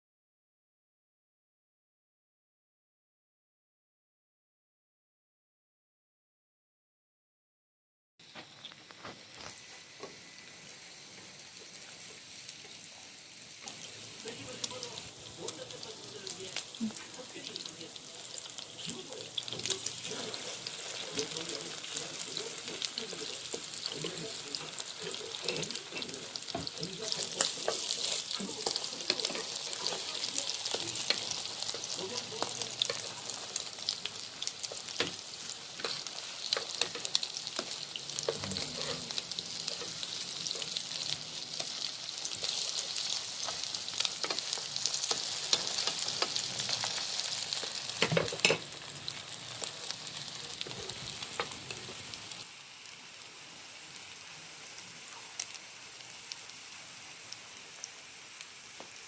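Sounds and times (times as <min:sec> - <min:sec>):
batter frying in oil: 0:08.2 - 0:59.0.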